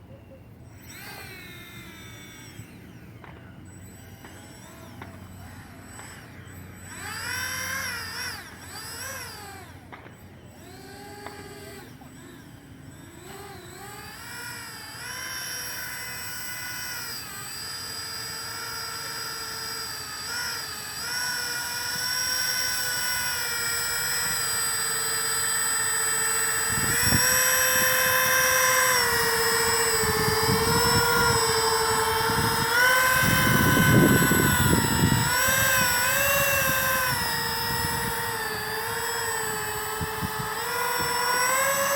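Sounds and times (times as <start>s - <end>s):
electric ducted fans whining: 0.0s - 41.9s.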